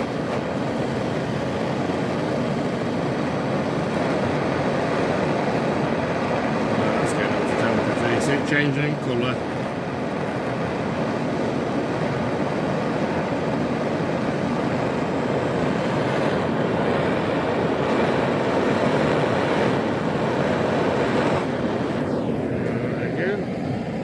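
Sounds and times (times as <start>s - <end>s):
propane torch flame hissing: 0.0s - 24.0s.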